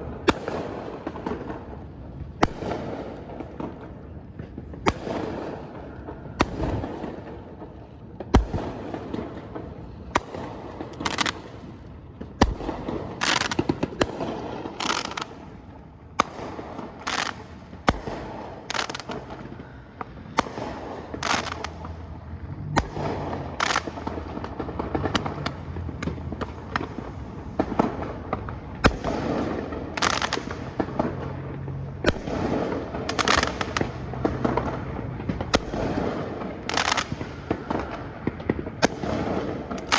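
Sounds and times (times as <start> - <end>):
fireworks bangs and pops: 0.0 - 39.9
fireworks crackle: 0.0 - 39.9.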